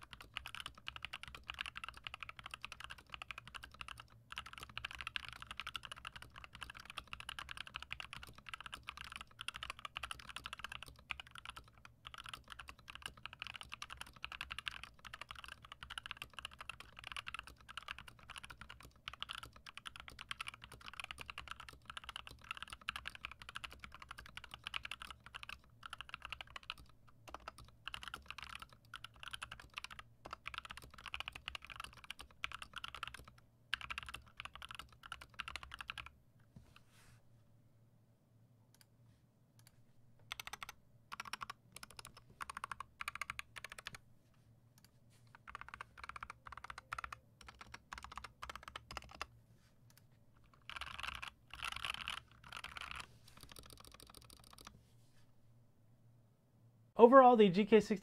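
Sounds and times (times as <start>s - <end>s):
fast keyboard typing: 0.0s - 36.2s, 40.3s - 44.0s, 45.3s - 49.3s, 50.4s - 54.7s.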